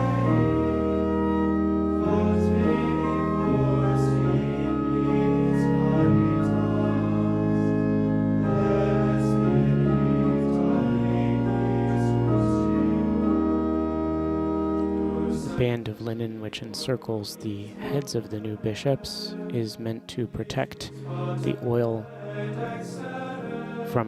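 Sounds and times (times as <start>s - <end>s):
choir singing a hymn: 0.0s - 24.0s
organ: 0.0s - 24.0s.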